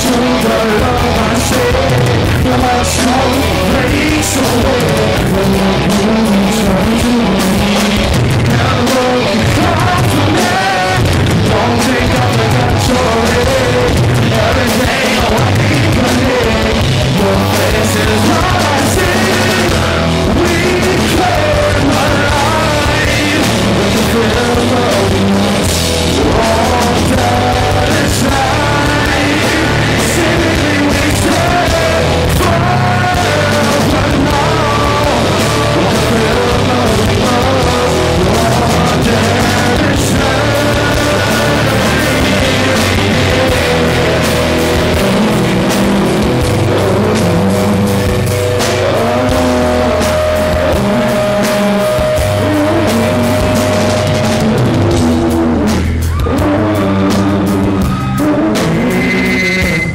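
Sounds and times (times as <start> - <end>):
live metal band playing: 0.0 - 59.9
person singing: 0.0 - 59.9.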